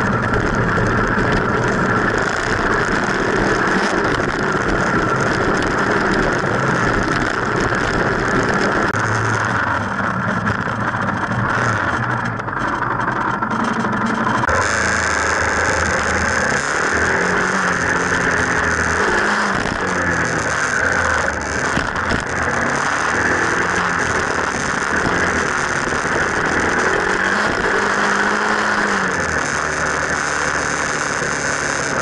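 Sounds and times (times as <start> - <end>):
motorcycle engine revving: 0.0 - 32.0
wind and road noise: 0.0 - 32.0.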